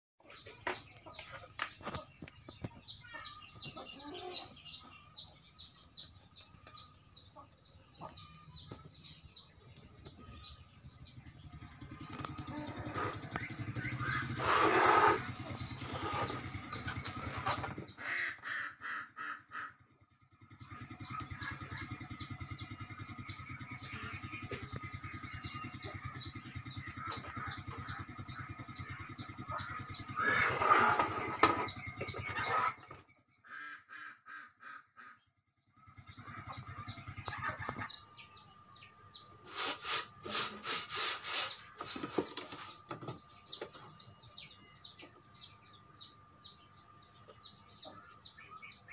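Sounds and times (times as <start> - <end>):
small birds chirping: 0.2 - 18.6, 19.2 - 34.0, 34.6 - 48.9.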